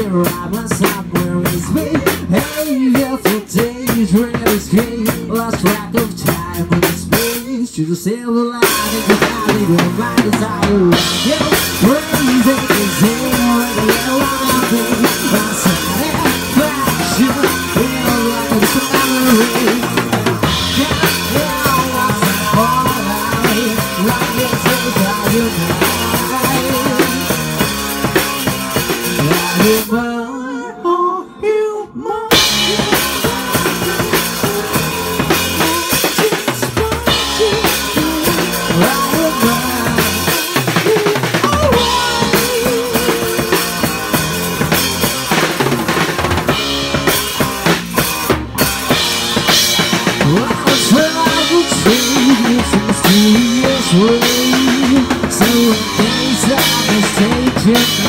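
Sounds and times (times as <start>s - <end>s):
backing track music: 0.0s - 7.7s, 8.6s - 58.0s
rock drum kit played hard: 0.0s - 30.2s, 32.3s - 58.0s.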